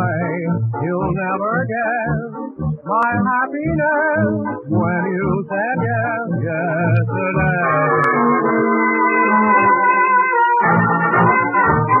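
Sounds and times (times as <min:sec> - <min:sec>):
wavering lead melody: 0:00.0 - 0:12.0.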